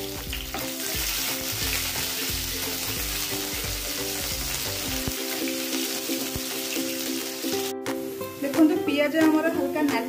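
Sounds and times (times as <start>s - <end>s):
onions sizzling in oil: 0.0s - 9.0s
background music with steady beat: 0.0s - 10.0s.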